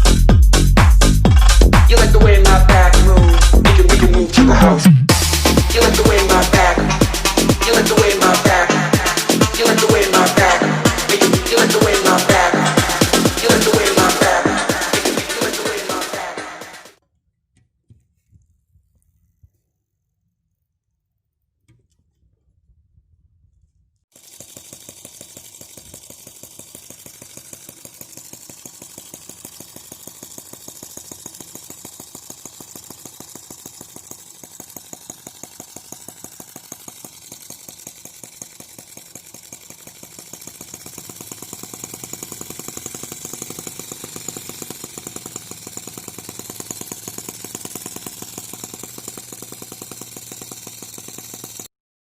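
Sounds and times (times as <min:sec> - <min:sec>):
small gasoline engine running: 0:00.0 - 0:17.0, 0:24.1 - 0:51.7.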